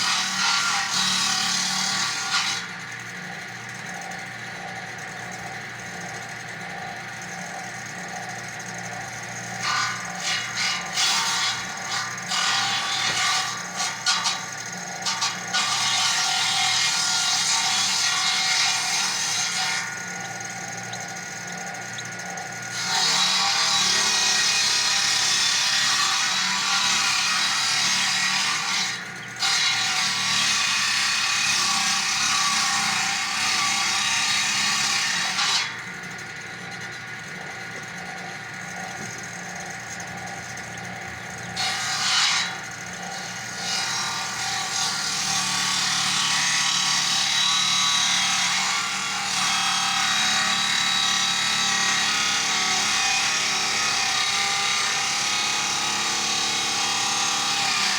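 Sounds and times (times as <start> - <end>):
chainsaw cutting wood: 0.0 - 5.0, 5.6 - 57.9.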